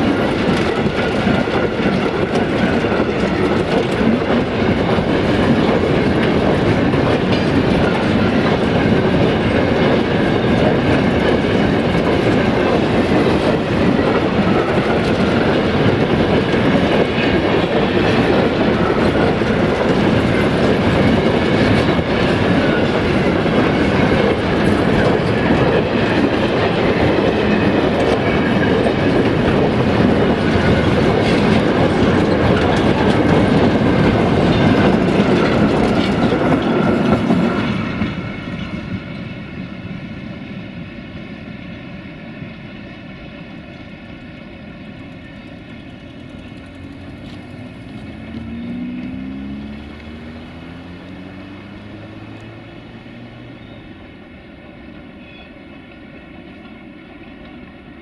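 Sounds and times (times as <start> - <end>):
wheels clattering over rail joints: 0.0 - 39.4, 44.9 - 53.8
freight wagons rumbling past: 0.0 - 39.7, 44.9 - 54.4.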